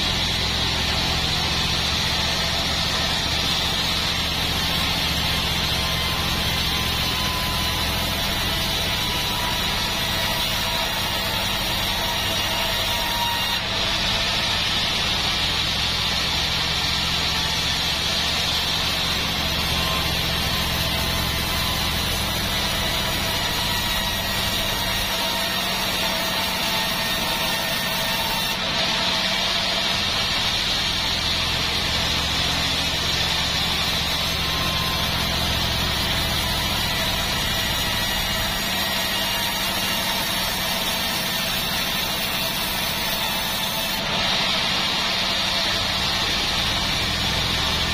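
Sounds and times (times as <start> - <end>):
band saw cutting a log: 0.0 - 47.9
sawmill motor drone: 0.0 - 47.9.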